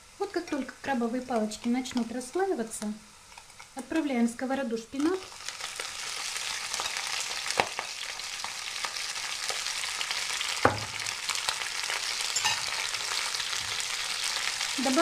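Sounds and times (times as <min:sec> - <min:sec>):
spinach sizzling in hot oil: 0:00.0 - 0:15.0.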